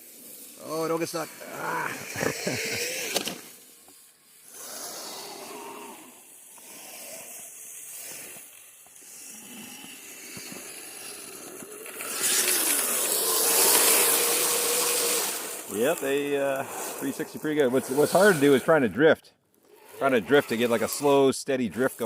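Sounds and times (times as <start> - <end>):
light hiss: 0.0 - 18.7
electric motors whining: 0.1 - 18.8.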